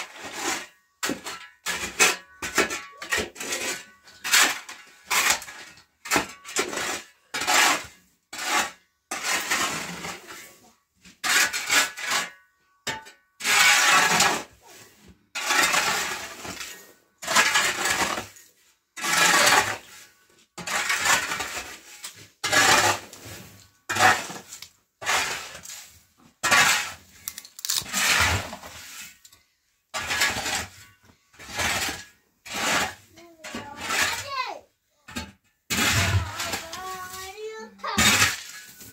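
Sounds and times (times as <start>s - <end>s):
shovel scraping hard floor: 0.0s - 38.9s.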